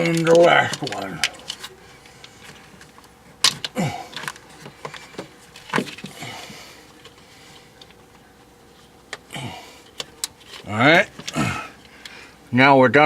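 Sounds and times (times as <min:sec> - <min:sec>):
handling noise: 0:00.0 - 0:12.1.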